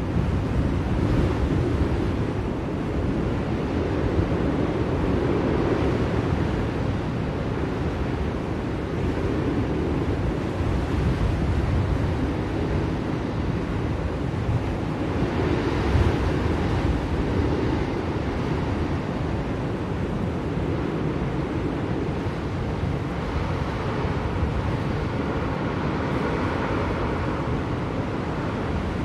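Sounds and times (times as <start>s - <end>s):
blizzard wind blowing: 0.0s - 29.0s.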